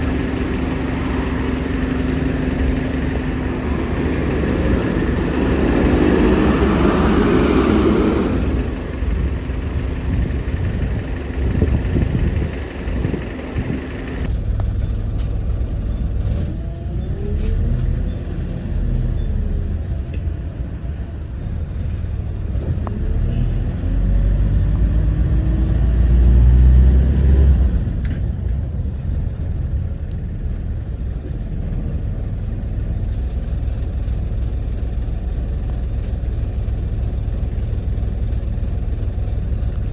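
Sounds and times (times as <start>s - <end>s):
bus diesel engine pulling away: 0.0s - 39.9s.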